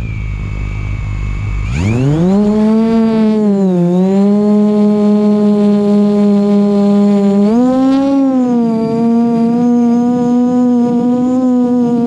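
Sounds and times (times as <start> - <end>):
drone motors whining: 0.0 - 12.0
low wind rumble: 0.0 - 12.0.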